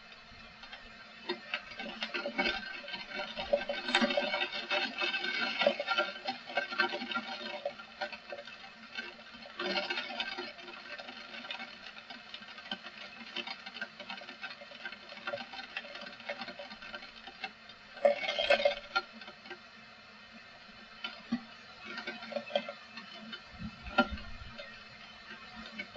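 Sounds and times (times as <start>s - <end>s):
rain pattering and dripping: 0.0s - 25.9s.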